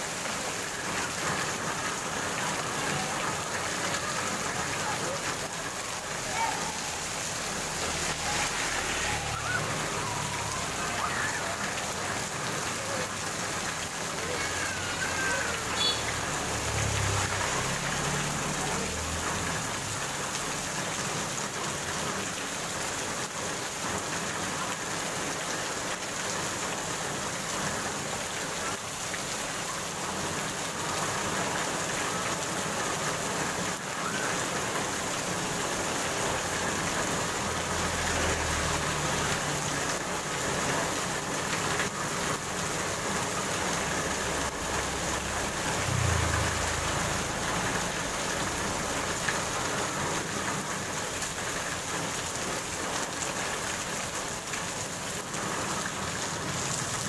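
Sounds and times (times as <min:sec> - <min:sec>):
heavy rain on paved road: 0:00.0 - 0:57.0.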